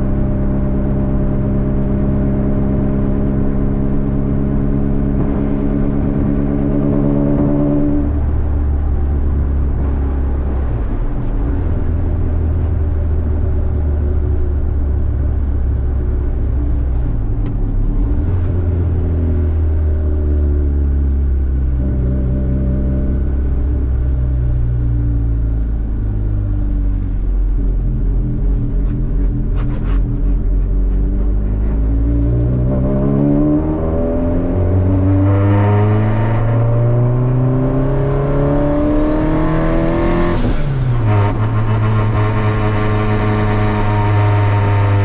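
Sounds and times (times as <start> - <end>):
car engine drone: 0.0 - 45.0
road noise: 0.0 - 45.0.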